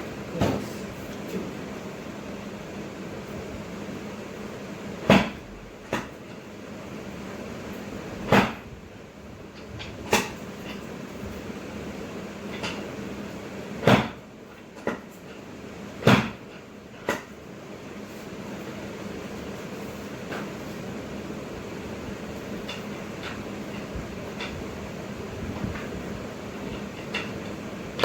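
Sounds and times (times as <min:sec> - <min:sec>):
air conditioner hum: 0:00.0 - 0:28.0.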